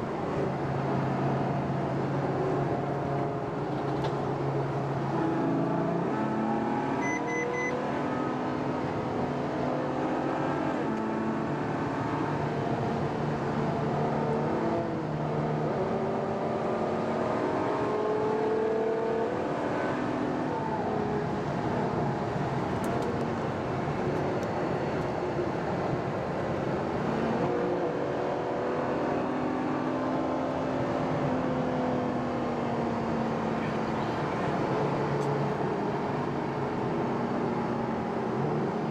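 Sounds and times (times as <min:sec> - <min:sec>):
car engines running: 0:00.0 - 0:38.9.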